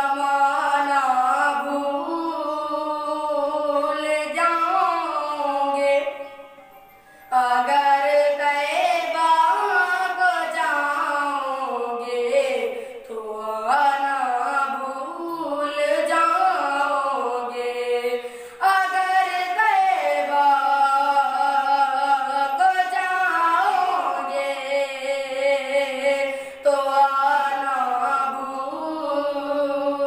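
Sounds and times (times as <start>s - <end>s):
boy singing into microphone: 0.0s - 6.6s, 7.2s - 30.0s.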